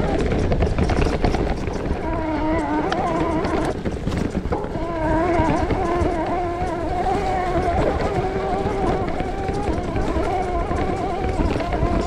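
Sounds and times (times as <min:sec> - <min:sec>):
tyres rumbling on trail: 0:00.0 - 0:12.0
wind on microphone: 0:00.0 - 0:12.0.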